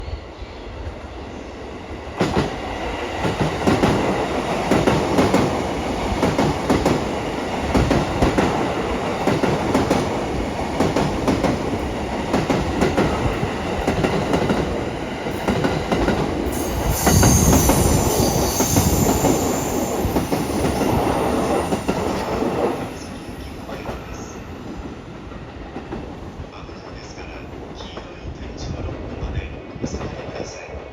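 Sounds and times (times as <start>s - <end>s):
high-pitched train sound: 0.0s - 28.4s
train rumble: 0.7s - 30.9s.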